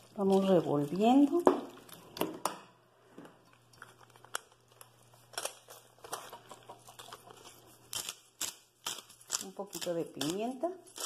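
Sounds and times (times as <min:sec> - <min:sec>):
spoon stirring wet mix: 0:00.0 - 0:02.2, 0:03.3 - 0:11.0.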